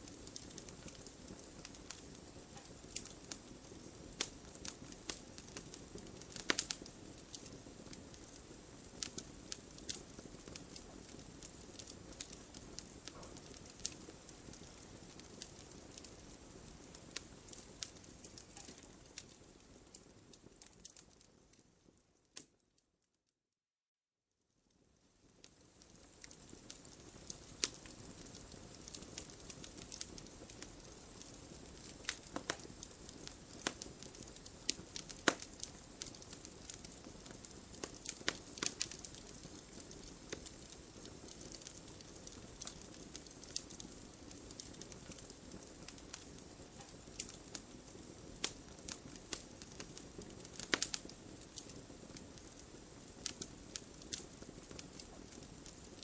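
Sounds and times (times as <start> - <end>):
wood fire crackling: 0.0 - 22.6, 24.7 - 56.0.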